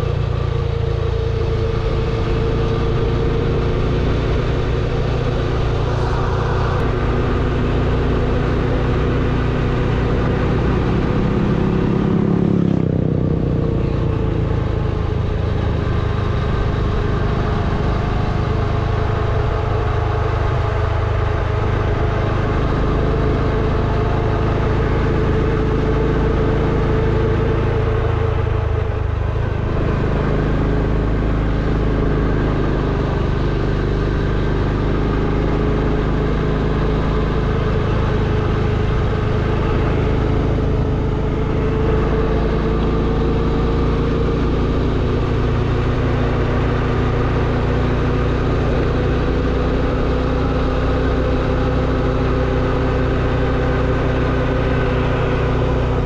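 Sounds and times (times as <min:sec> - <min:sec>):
constant rushing noise: 0:00.0 - 0:56.0
motorcycle engine running: 0:00.0 - 0:56.0.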